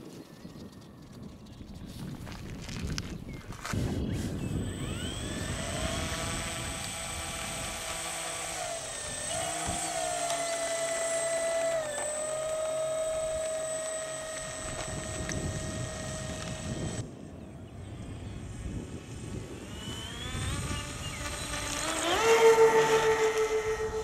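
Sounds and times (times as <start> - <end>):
model airplane motor whine: 0.5 - 24.0.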